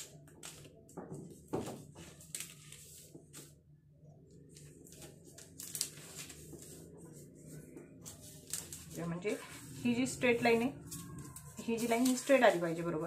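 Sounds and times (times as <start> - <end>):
paper rustling and crinkling: 0.0 - 3.6, 4.5 - 13.0.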